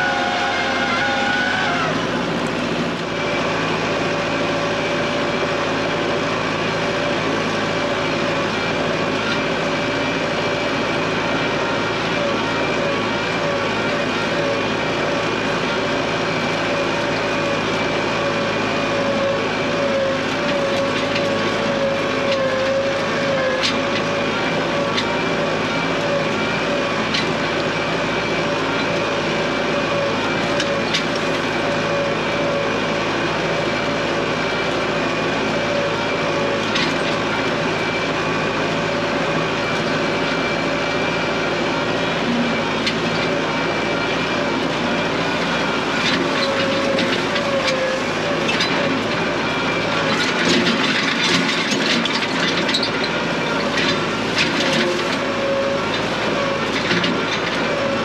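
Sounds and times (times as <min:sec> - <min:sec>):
rattles and clanks of loader: 0:00.0 - 0:58.0
tractor engine running: 0:00.0 - 0:58.0.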